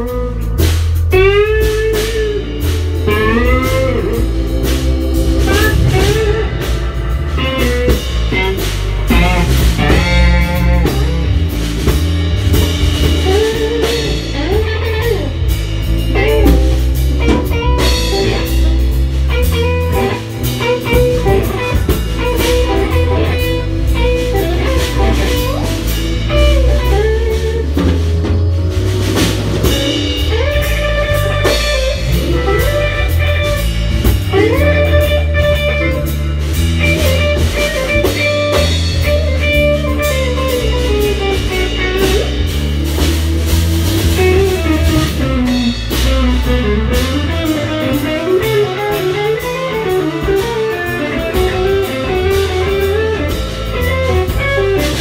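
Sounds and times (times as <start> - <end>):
drum kit: 0.0 - 55.0
electric bass: 0.0 - 55.0
electric guitar lead: 0.0 - 55.0
keyboards: 0.0 - 55.0.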